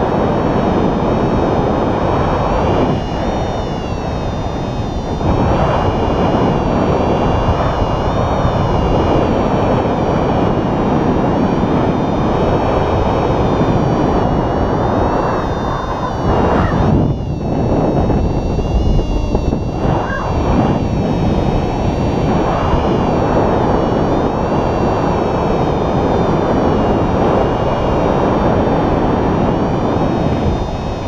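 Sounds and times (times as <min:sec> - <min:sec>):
thin high whine: 0:00.0 - 0:31.0
wind roar on microphone: 0:00.0 - 0:31.0.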